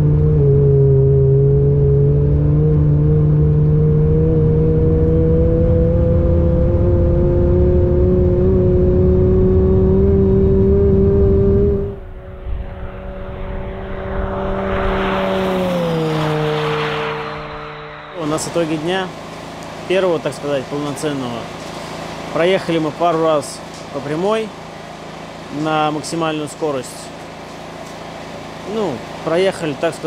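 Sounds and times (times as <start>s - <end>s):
car approaching with rushing noise: 0.0s - 30.0s
car engine accelerating: 0.0s - 30.0s.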